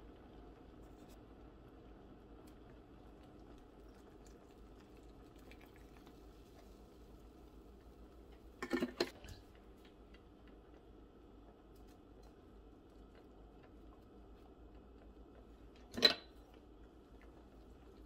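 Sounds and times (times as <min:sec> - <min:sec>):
faint kitchen room tone: 0:00.0 - 0:18.0.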